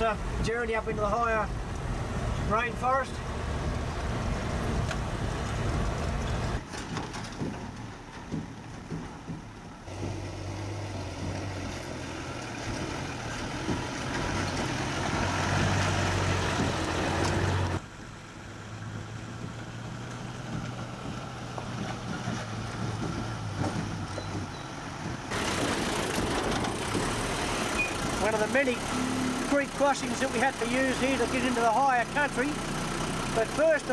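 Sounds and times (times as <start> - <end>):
vehicle engine running: 0.0 - 6.7, 7.4 - 33.9.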